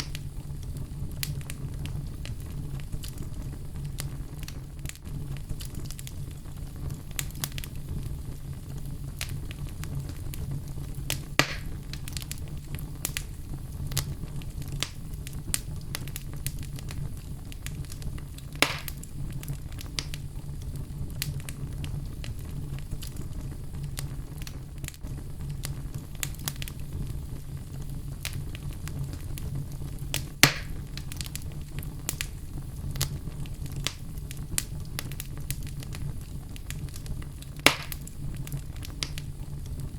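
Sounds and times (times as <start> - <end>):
fire crackling: 0.0 - 39.9
loud fire pops: 0.0 - 39.9.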